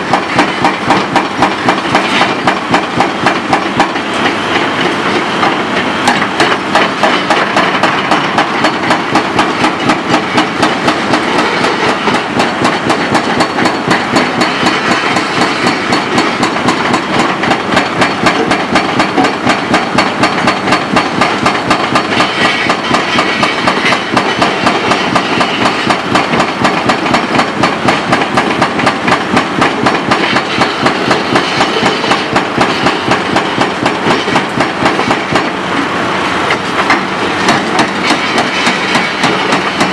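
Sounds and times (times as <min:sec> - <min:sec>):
hydraulic hammer pounding concrete: 0:00.0 - 0:35.6, 0:36.5 - 0:39.9
excavator engine under load: 0:00.0 - 0:39.9.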